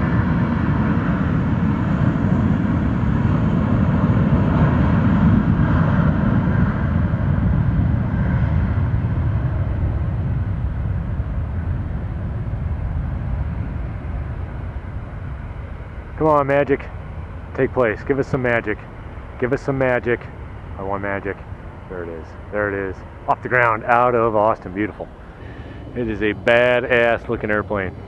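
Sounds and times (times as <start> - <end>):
jet engines roaring at takeoff: 0.0 - 28.0.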